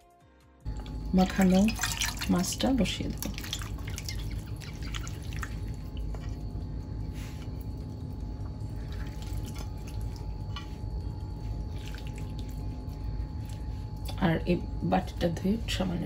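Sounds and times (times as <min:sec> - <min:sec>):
steady low hum: 0:00.2 - 0:16.0.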